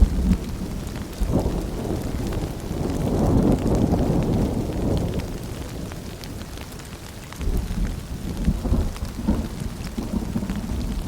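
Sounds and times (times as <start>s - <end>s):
rolling thunder: 0.0s - 6.4s, 7.4s - 11.0s
steady rain: 0.0s - 11.0s.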